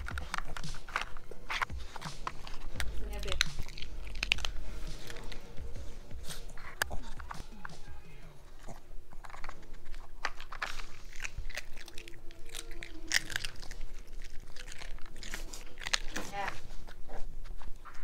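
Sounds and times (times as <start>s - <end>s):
dog chewing dry kibble: 0.0s - 18.0s.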